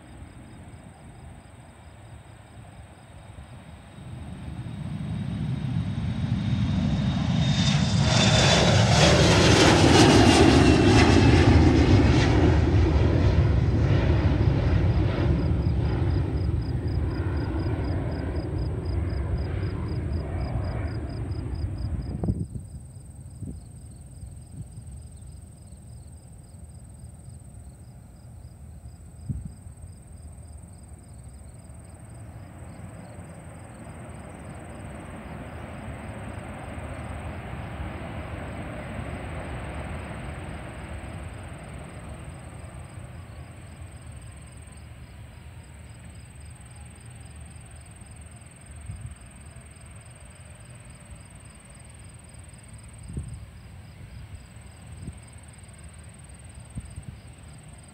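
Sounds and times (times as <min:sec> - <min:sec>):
insects chirping: 0:00.0 - 0:57.9
jet airliner roar: 0:00.0 - 0:57.9.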